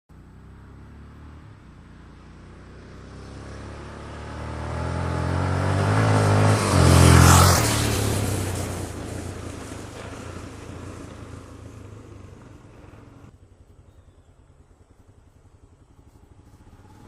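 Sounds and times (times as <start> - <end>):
vehicle engine passing: 0.1 - 17.0.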